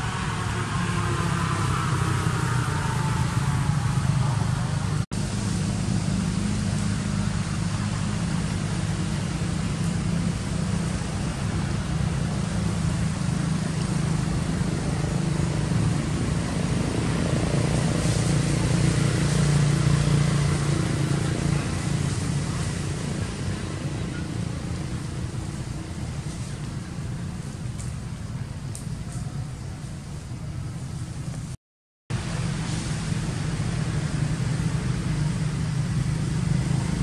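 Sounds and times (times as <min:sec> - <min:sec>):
low engine-like drone: 0:00.0 - 0:37.0.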